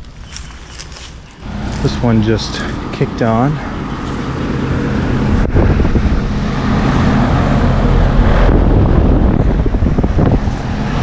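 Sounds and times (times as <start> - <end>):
condenser fan moving air: 0.0 - 11.0
heat pump compressor humming: 0.0 - 11.0.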